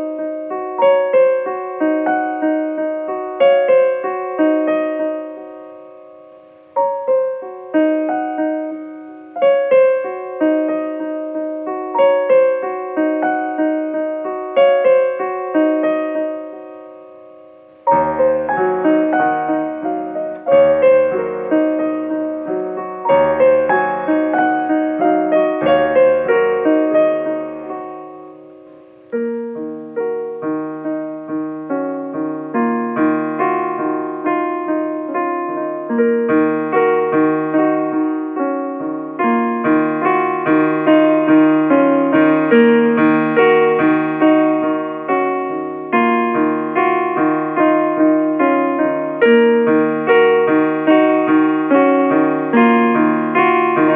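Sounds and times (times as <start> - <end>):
instrumental piano music: 0.0 - 53.9.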